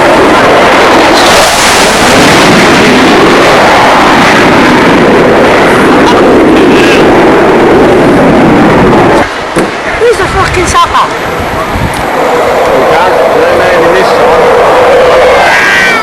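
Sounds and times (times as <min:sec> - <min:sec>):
jet engine rush: 0:00.0 - 0:16.0.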